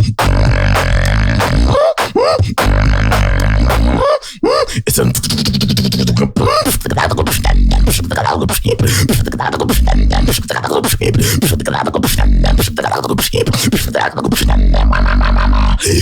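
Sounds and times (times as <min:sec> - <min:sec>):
person beatboxing: 0:00.0 - 0:16.0.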